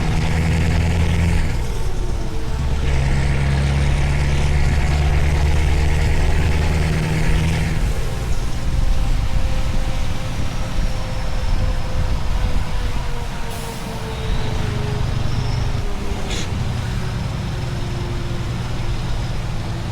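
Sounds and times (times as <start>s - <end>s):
truck engine droning: 0.0s - 19.9s.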